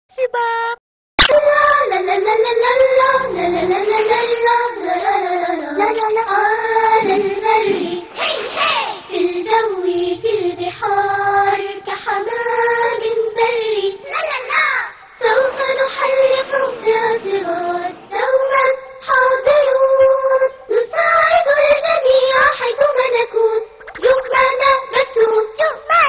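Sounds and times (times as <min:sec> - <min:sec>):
children singing: 0:01.2 - 0:26.0.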